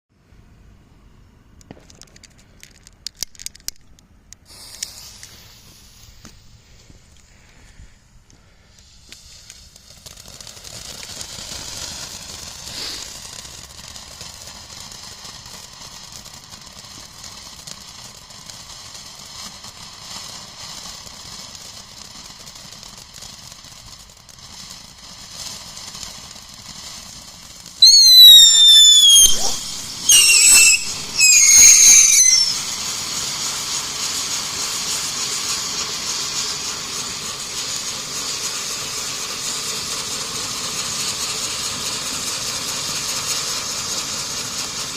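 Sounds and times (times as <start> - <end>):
firework whistling bursts: 4.4 - 44.9
fountain firework hissing: 4.4 - 44.9.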